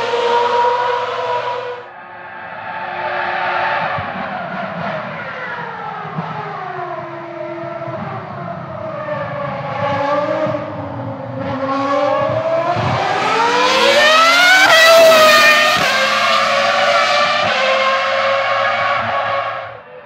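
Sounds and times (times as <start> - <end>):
racing car engine accelerating: 0.0 - 20.0.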